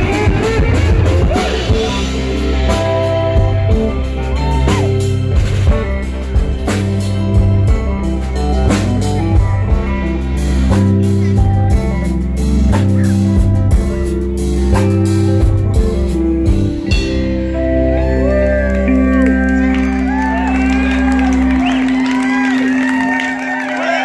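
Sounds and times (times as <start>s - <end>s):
bass guitar: 0.0s - 24.0s
drum kit: 0.0s - 24.0s
guitar: 0.0s - 24.0s.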